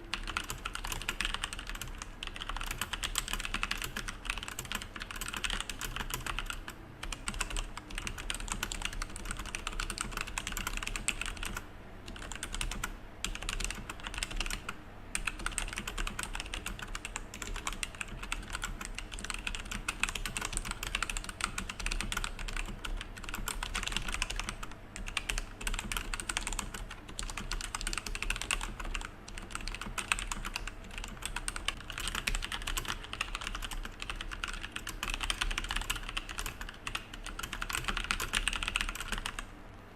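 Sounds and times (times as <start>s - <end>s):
typing on mechanical keyboard: 0.1s - 39.4s.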